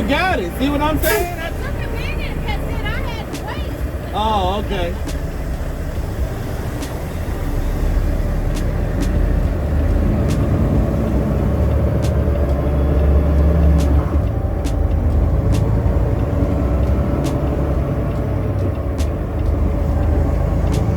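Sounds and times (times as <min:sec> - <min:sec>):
diesel truck engine rumbling: 0:00.0 - 0:20.9.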